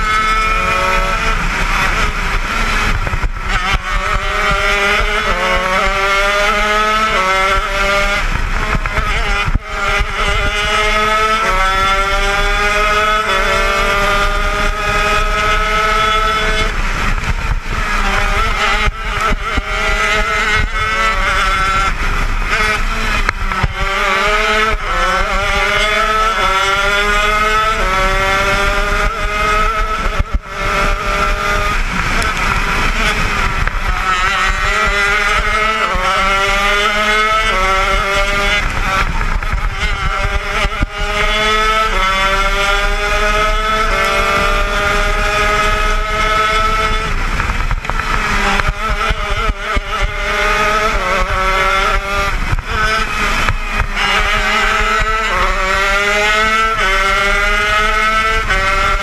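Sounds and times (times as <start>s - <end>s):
kart engine revving through gears: 0.0s - 59.0s.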